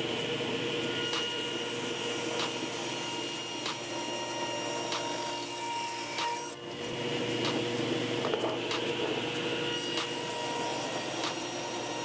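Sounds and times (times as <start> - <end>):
table saw running: 0.0 - 12.0.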